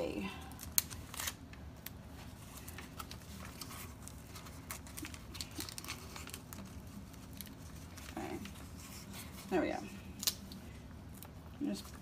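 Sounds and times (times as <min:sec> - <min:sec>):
faint low hum: 0:00.0 - 0:12.0
paper rustling: 0:00.7 - 0:12.0.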